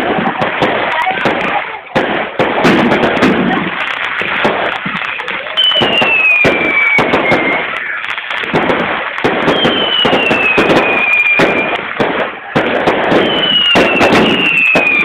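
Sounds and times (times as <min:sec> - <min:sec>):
firecrackers cracking and banging: 0:00.0 - 0:15.0
fireworks whistling downward: 0:02.3 - 0:15.0.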